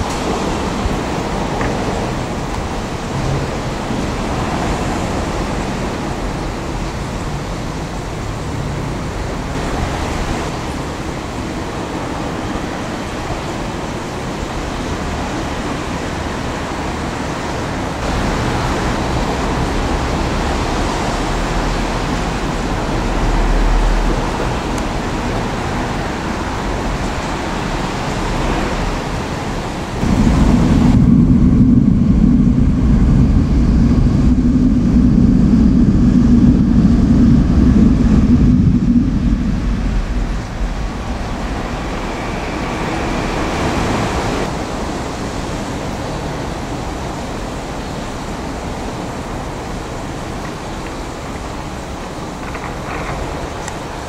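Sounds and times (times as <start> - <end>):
electric train passing: 0.0 - 54.0
steady background noise: 0.0 - 54.0.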